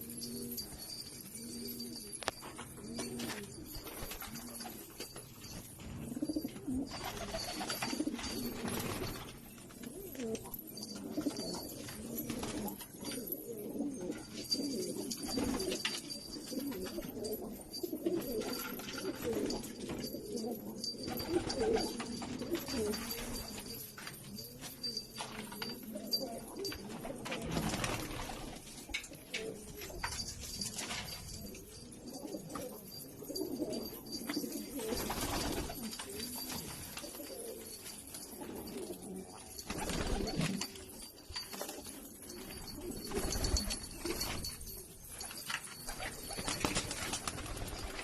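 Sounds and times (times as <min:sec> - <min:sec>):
pigeons cooing: 0:00.0 - 0:04.9, 0:06.0 - 0:44.9.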